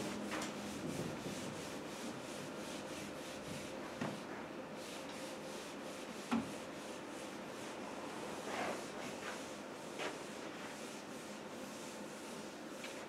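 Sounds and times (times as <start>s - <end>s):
eraser wiping whiteboard: 0.0s - 13.0s.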